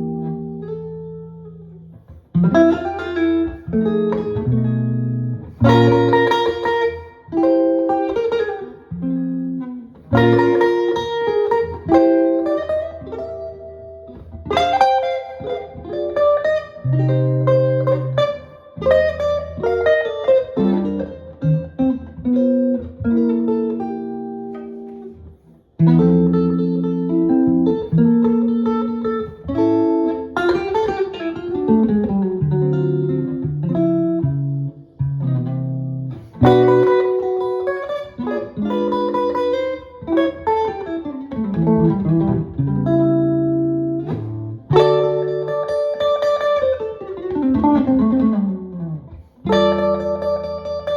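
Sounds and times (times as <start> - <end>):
jazz guitar playing: 0.0 - 50.9.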